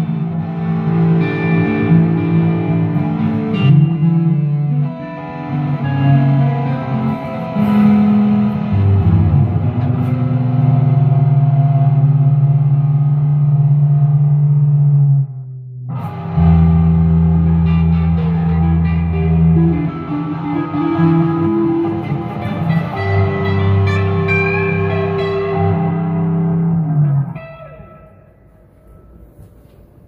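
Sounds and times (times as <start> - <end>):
electric guitars jamming: 0.0 - 15.2, 15.9 - 29.5.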